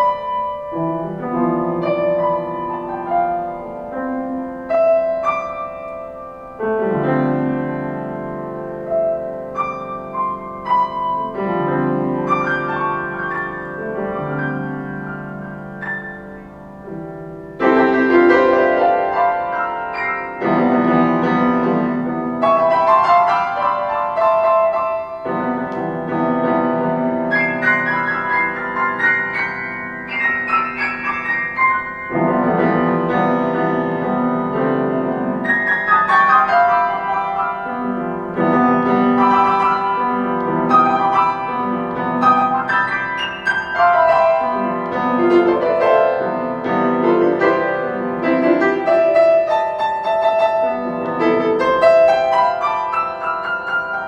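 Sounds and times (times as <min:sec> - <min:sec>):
solo piano chords and melody: 0:00.0 - 0:54.0.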